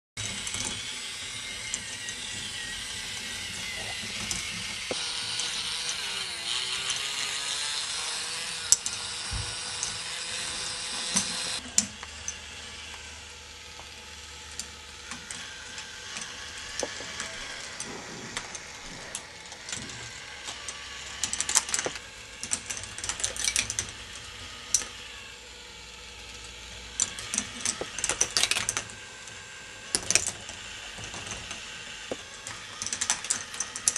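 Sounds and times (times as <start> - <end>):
balls clicking along plastic track: 0.2 - 33.9
small motors whirring: 0.2 - 33.9.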